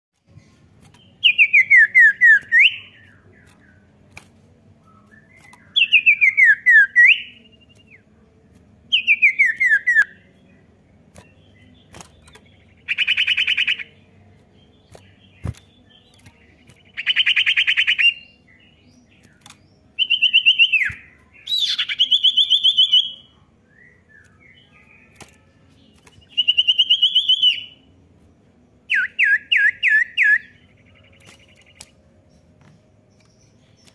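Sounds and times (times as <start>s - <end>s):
bird singing trills: 0.2s - 33.9s.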